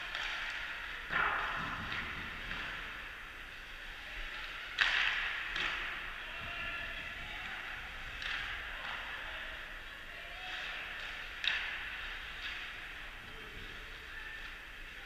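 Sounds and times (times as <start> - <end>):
skates and arena noise: 0.0 - 15.0.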